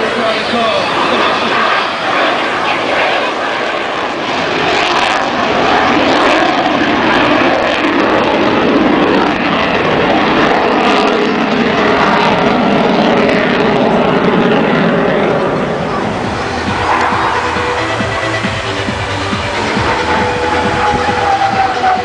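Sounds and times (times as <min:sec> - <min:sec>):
jet flying overhead: 0:00.0 - 0:22.0.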